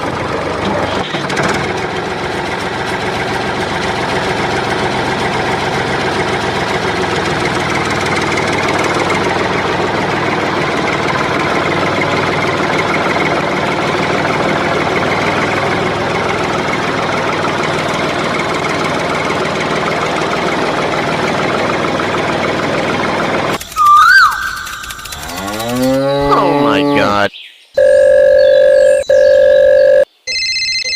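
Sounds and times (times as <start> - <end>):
engine idling: 0.0 - 27.2.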